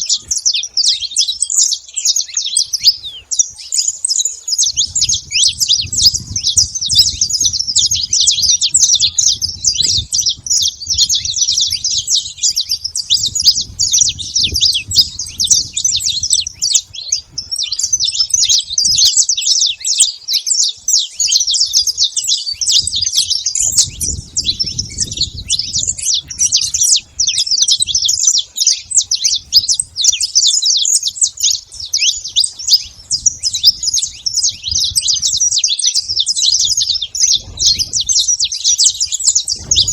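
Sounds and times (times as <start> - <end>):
finch chirping song: 0.0 - 39.9.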